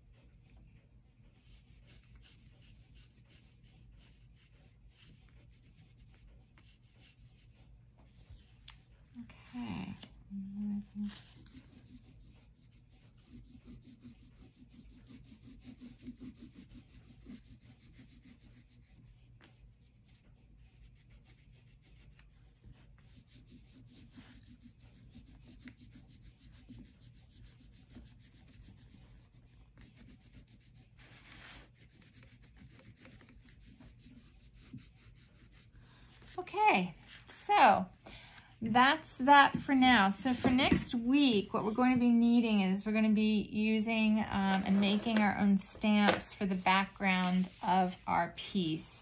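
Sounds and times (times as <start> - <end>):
low steady hum: 0.0 - 49.0
oil pastels scratching on paper: 1.4 - 10.1, 10.8 - 37.3, 44.0 - 48.8.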